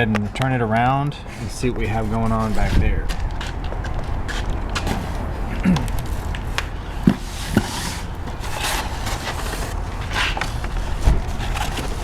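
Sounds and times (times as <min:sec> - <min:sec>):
scraping and shuffling: 0:00.1 - 0:12.0.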